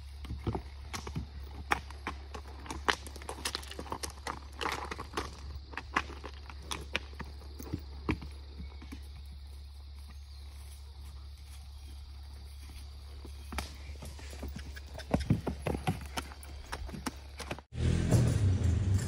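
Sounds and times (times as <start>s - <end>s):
horse hooves on gravel: 0.0s - 19.0s.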